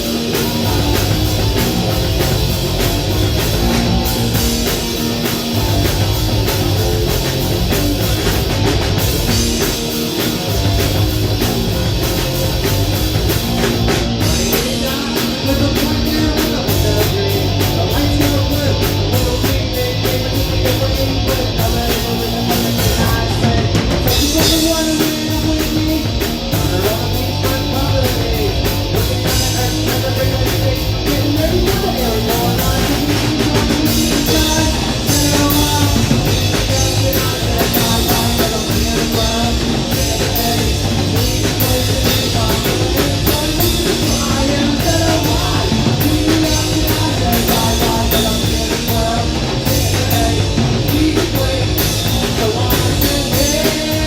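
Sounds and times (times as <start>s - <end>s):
person singing: 0.0s - 7.8s, 9.2s - 54.0s
bass guitar: 0.0s - 54.0s
distorted electric guitars: 0.0s - 54.0s
drum kit: 0.0s - 54.0s.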